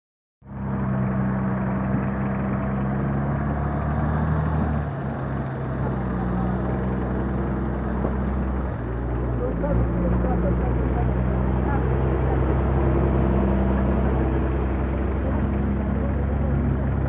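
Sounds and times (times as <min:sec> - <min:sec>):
road noise: 0:00.4 - 0:17.0
vehicle engine running: 0:00.4 - 0:17.0.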